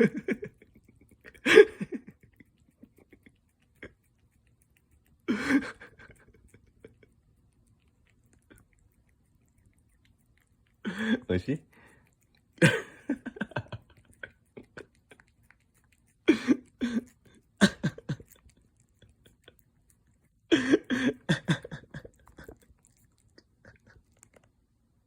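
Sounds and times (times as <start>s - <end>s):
cat licking and smacking: 0.0s - 25.0s.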